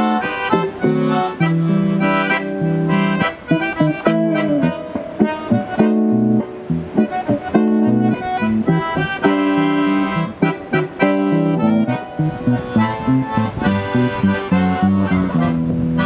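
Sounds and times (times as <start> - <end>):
accordion chords and melody: 0.0 - 16.0
guitar strumming: 0.0 - 16.0.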